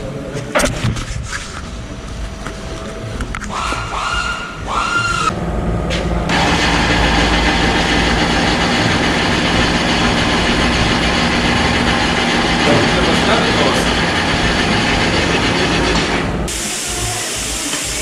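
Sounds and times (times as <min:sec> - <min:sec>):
loud mechanical noise with hum: 0:00.0 - 0:18.0.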